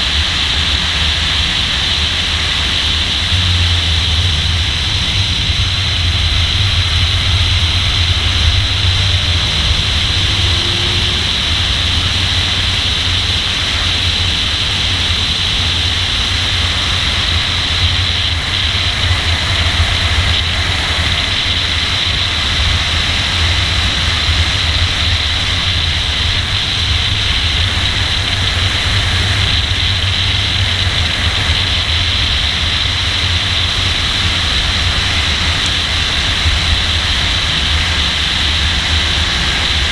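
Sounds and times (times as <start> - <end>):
low car rumble: 0.0 - 39.9
road noise: 0.0 - 39.9
wind rush: 0.0 - 39.9.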